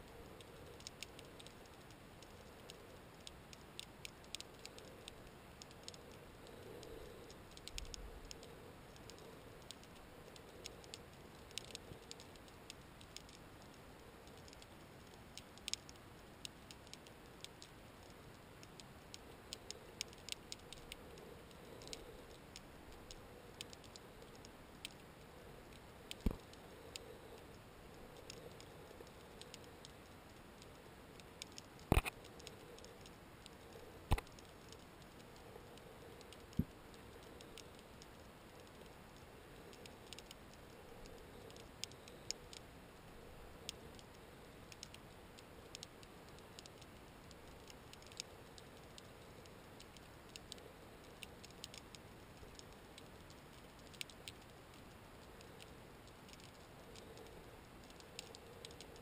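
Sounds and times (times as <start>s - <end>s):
faint steady hum: 0.0s - 59.0s
underwater clicks and ticks: 0.0s - 59.0s.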